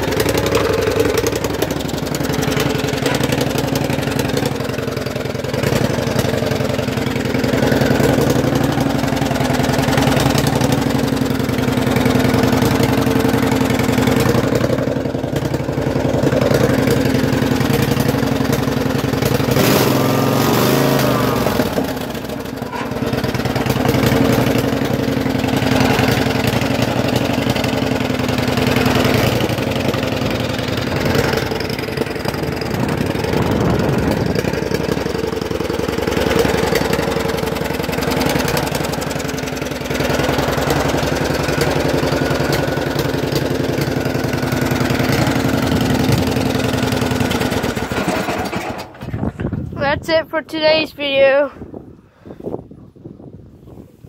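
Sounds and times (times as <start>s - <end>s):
tractor engine running: 0.0s - 51.5s.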